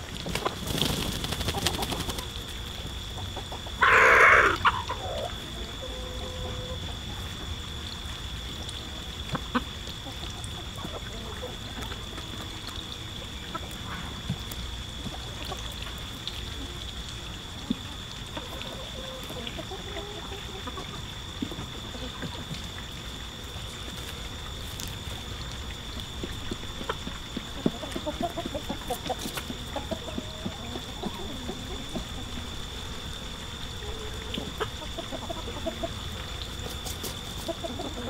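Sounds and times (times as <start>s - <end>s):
pecking and scratching in soil: 0.0s - 5.9s, 6.5s - 38.0s
chickens clucking: 0.2s - 7.5s, 9.0s - 16.8s, 17.4s - 38.0s.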